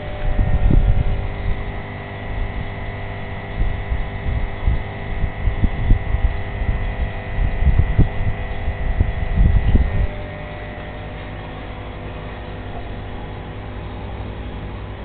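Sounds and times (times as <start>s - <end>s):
low rumbling: 0.0s - 15.0s
steady hum of held tones: 0.0s - 15.0s.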